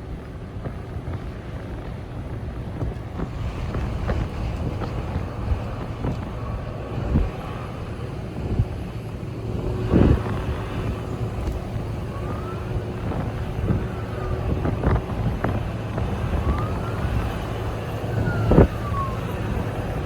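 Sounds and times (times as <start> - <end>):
wind rumble on microphone: 0.0 - 20.0
distant siren wailing: 3.2 - 20.0.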